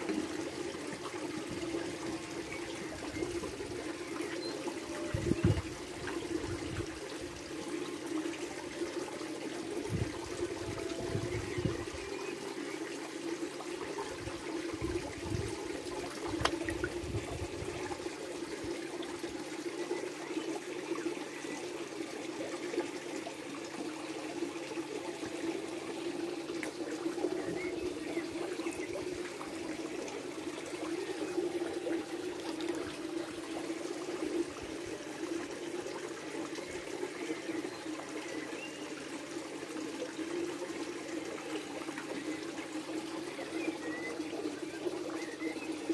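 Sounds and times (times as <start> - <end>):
water trickling: 0.0 - 45.9.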